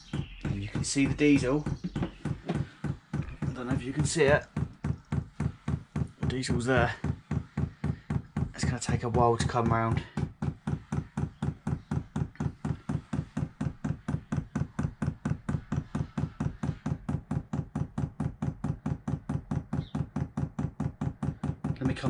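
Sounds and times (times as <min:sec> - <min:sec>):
fuel pump clicking steadily: 0:00.0 - 0:22.0.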